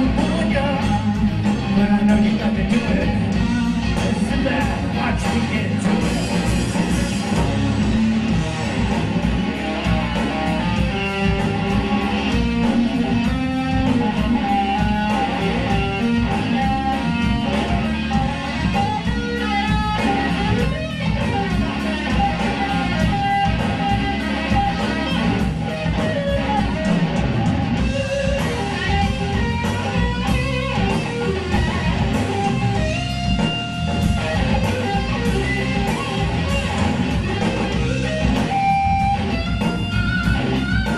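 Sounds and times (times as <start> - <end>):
bass guitar: 0.0 - 40.9
drum kit with cymbals: 0.0 - 40.9
electric guitar lead: 0.0 - 40.9.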